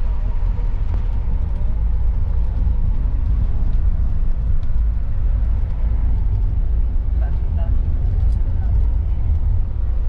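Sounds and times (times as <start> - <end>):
coach engine and road rumble: 0.0 - 10.0.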